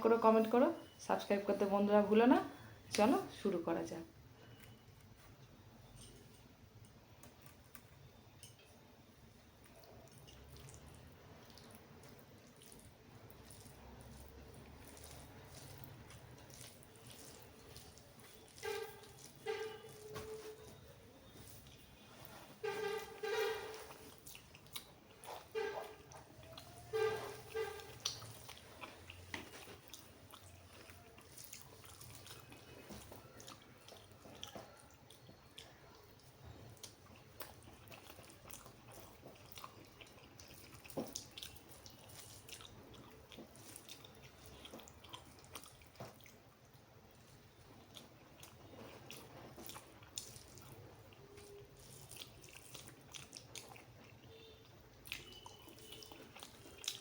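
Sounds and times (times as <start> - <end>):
person chewing food: 4.4 - 57.0.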